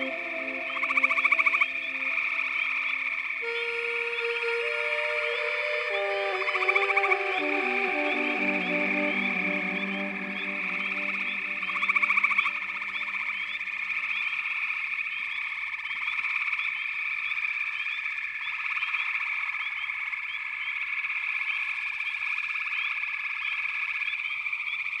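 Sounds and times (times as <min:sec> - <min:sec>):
frogs chorus trilling: 0:00.0 - 0:24.9.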